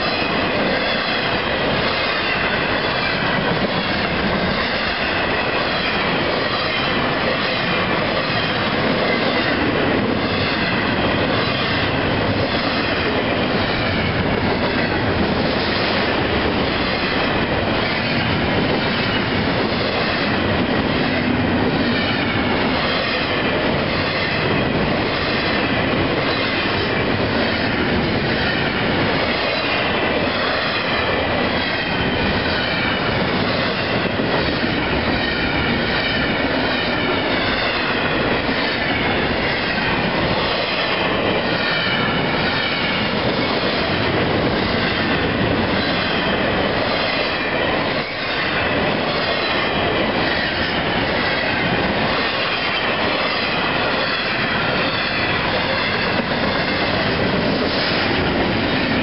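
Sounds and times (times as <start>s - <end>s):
freight train wheels clacking: 0.0s - 59.0s
train wheel squeal: 0.0s - 59.0s.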